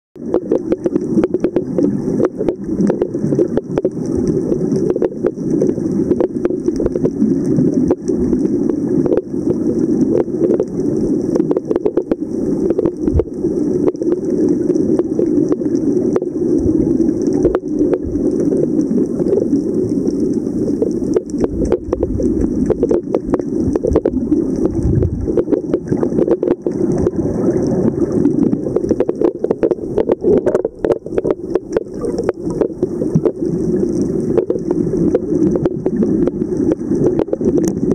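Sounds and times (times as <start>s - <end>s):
fine crackling clicks: 0.2s - 37.9s
muffled underwater rumble: 0.2s - 37.9s.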